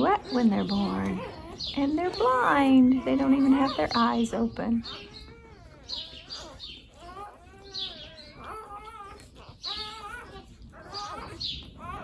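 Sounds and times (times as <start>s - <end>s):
puppies squealing and whimpering: 0.0s - 12.0s.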